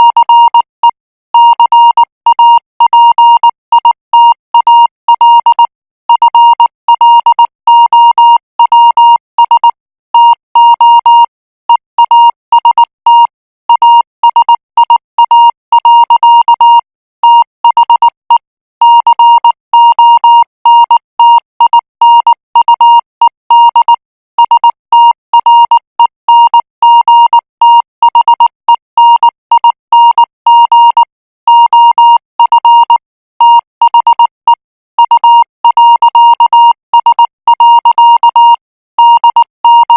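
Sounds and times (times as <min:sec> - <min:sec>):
morse code beeping tone: 0:00.0 - 0:39.9.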